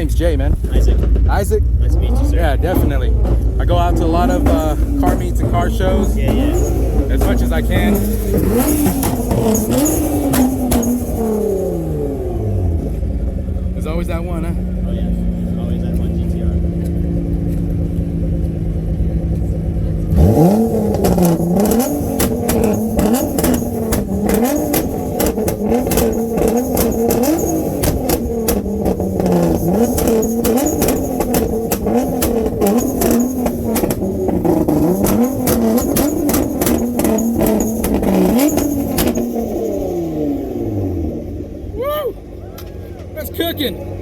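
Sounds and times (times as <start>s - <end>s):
car engine revving: 0.0s - 44.0s
exhaust crackling and popping: 0.0s - 44.0s.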